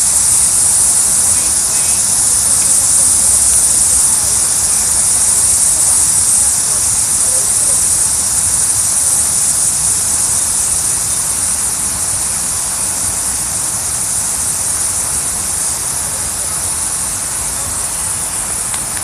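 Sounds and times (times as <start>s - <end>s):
water fountain splashing: 0.0s - 19.0s.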